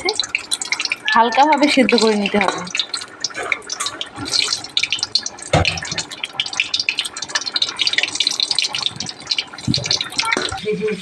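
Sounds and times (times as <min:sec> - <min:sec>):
potatoes sizzling in hot oil: 0:00.0 - 0:10.4.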